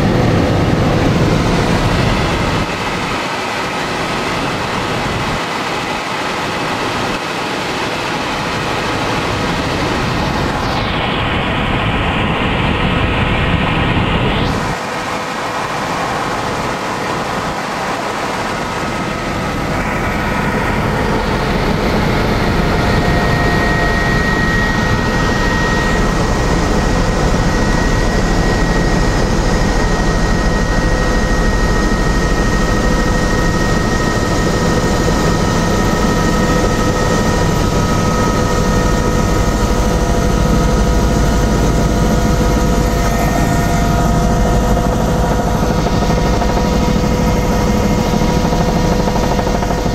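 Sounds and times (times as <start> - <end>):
helicopter cabin drone: 0.0 - 49.9
high turbine whine: 0.0 - 49.9.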